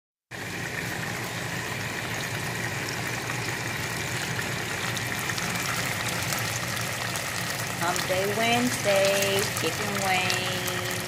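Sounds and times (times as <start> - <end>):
oil sizzling while deep-frying: 0.3 - 11.0.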